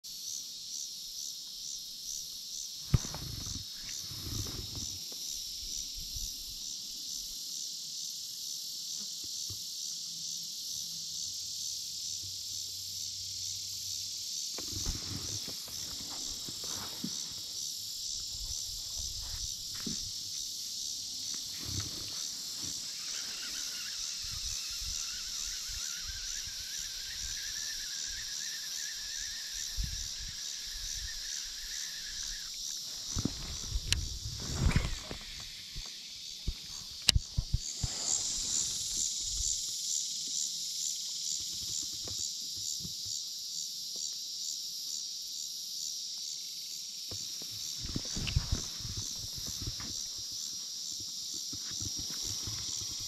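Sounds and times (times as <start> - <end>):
insects chirping: 0.0 - 53.0
lower insect tone: 0.0 - 53.0.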